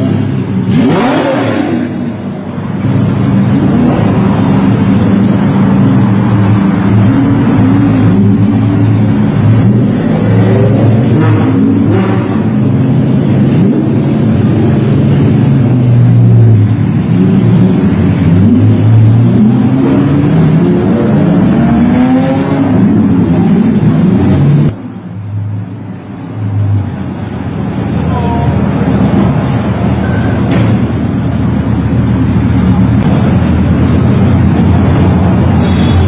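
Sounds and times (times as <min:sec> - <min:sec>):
sports car engines revving: 0:00.0 - 0:36.0.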